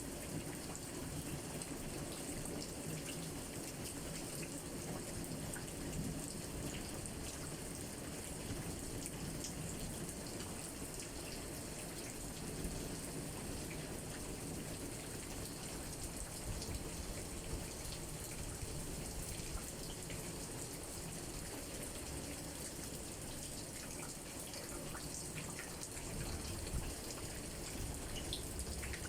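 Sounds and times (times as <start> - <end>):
steady rain with ticking drops: 0.0 - 29.0.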